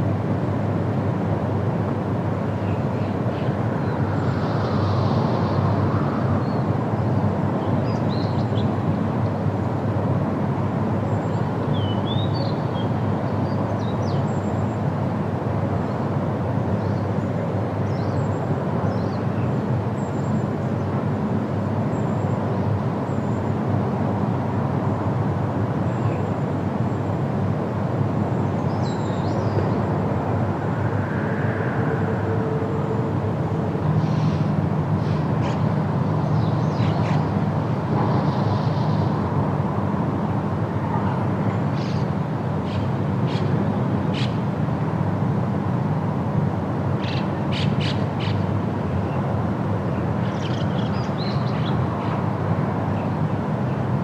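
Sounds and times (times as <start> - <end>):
outdoor background rumble: 0.0 - 54.0.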